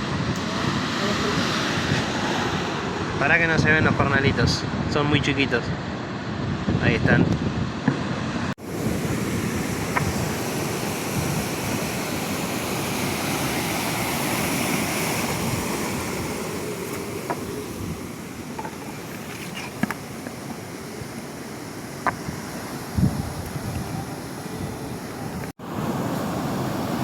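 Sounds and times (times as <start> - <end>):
wind on microphone: 0.0 - 25.5
sea surf washing: 0.0 - 27.0.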